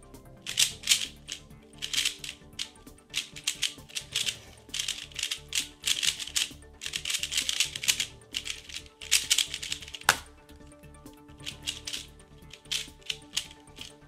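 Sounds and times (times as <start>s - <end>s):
background music: 0.0s - 14.0s
puzzle cube clicking: 0.4s - 10.3s, 11.3s - 14.0s.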